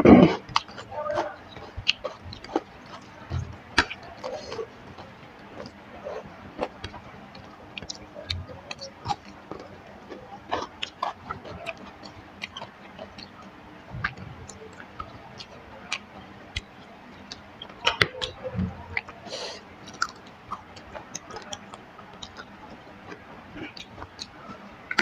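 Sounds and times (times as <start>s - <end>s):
wet mouth clicks and chewing: 0.0s - 25.0s.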